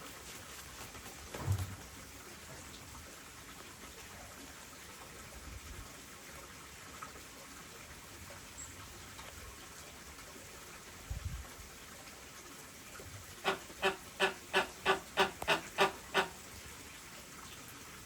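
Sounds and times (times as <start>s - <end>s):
water trickling: 1.8s - 18.0s.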